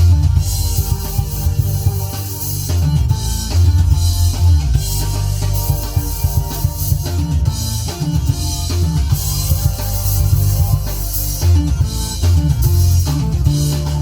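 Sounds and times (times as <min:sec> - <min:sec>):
recorded band music: 0:00.0 - 0:14.0.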